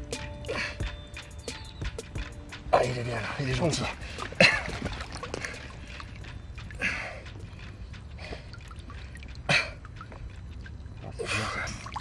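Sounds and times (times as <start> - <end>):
water dripping and trickling: 0.0 - 12.0.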